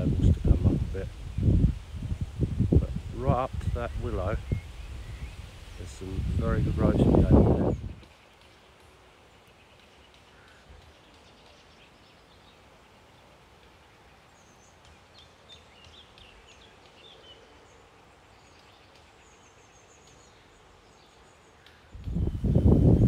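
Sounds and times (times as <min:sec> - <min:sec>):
distant birds chirping and trilling: 0:00.0 - 0:23.0.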